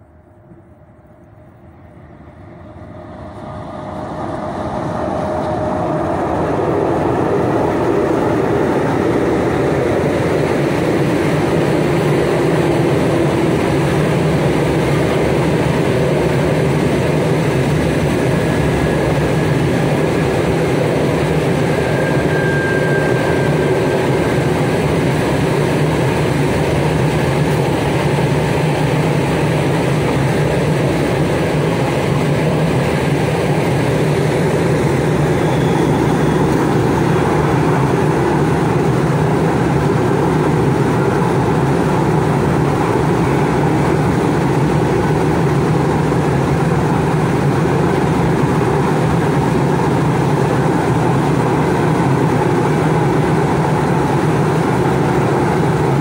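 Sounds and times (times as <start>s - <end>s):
electric locomotives approaching: 0.0s - 56.0s
train wheels rumbling on rail: 0.0s - 56.0s.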